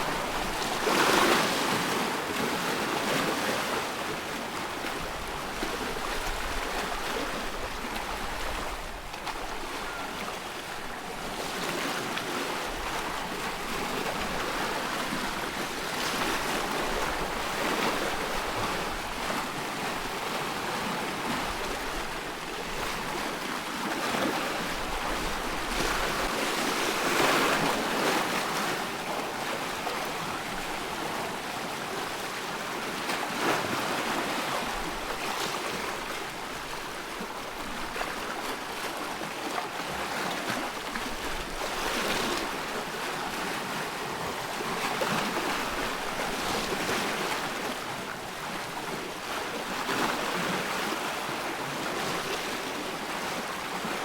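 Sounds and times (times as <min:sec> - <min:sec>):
waves splashing: 0:00.0 - 0:54.0.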